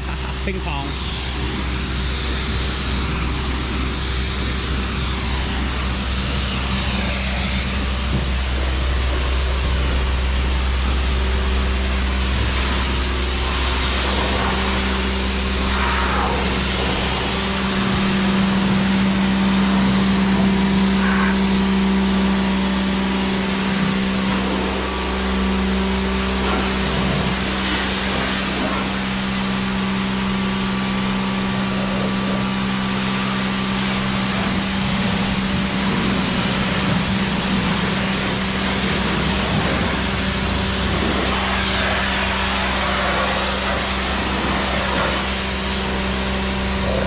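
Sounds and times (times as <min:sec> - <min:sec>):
high-pressure water spray hiss: 0:00.0 - 0:47.0
pressure washer motor hum: 0:00.0 - 0:47.0.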